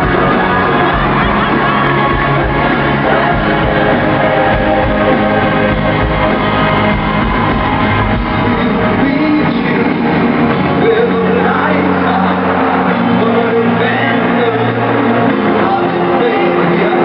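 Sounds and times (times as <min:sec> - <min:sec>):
live pop-rock band with singing: 0:00.0 - 0:17.0.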